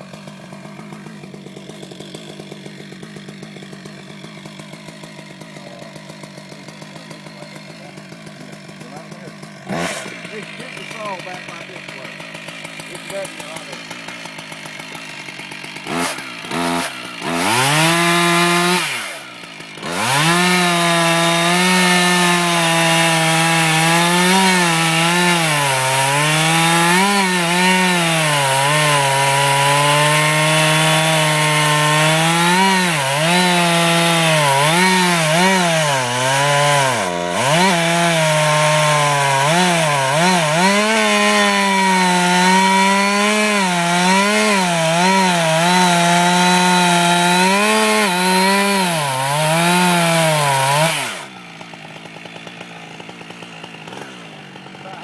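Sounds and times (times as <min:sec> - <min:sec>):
chainsaw cutting wood: 0:00.0 - 0:55.0
chainsaw idling and revving: 0:00.0 - 0:55.0.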